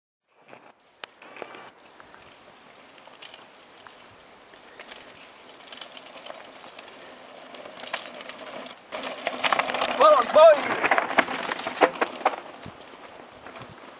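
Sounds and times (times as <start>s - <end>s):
bike tyres crunching over gravel: 0.3s - 13.9s.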